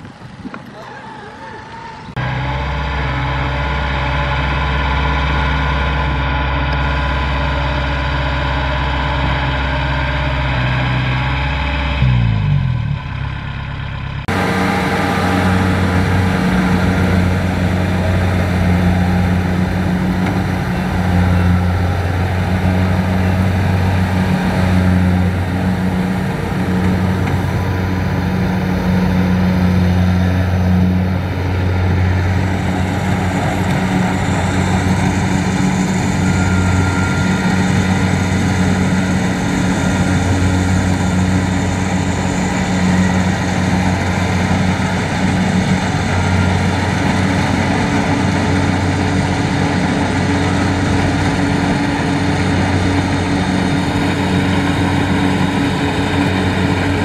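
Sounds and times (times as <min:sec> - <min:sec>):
harvesting machinery noise: 0:00.0 - 0:12.5, 0:13.8 - 0:57.0
diesel engine drone: 0:00.0 - 0:57.0.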